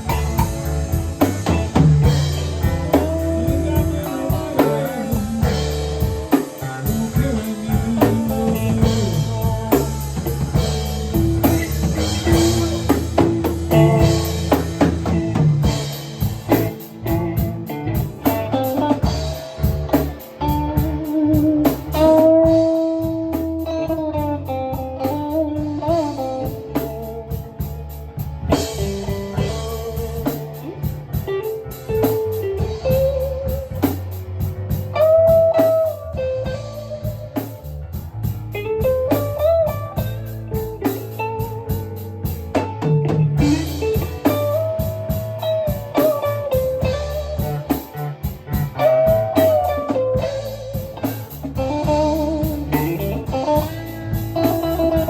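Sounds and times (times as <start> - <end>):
bass: 0.0 - 55.0
drum kit: 0.0 - 55.0
electric guitar lead: 0.0 - 55.0.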